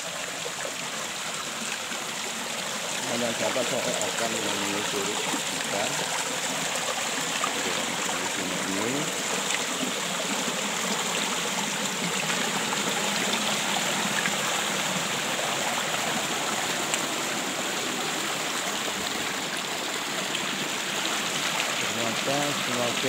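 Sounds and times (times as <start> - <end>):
stream gurgling over stones: 0.0 - 23.0.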